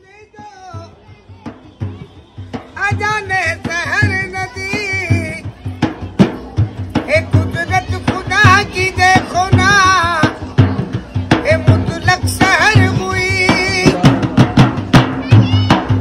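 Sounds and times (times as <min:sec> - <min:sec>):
steel hand drum beating: 0:00.4 - 0:16.0.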